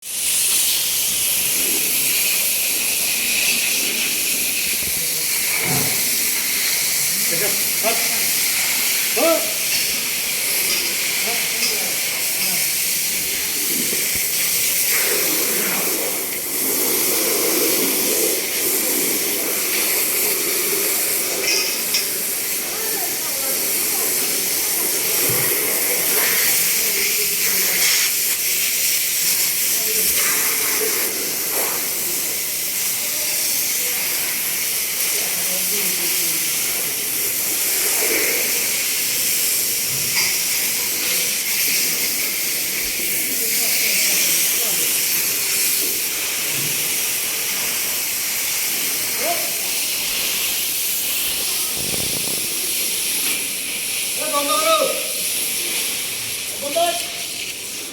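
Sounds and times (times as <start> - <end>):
water spraying hiss: 0.0 - 57.9.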